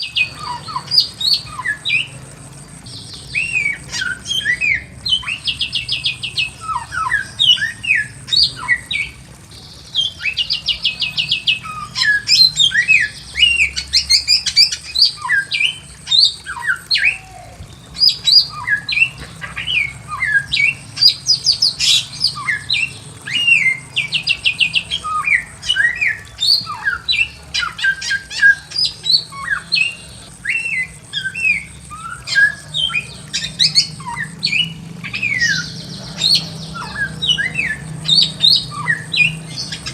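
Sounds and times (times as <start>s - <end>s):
bird whistling song: 0.0s - 39.9s.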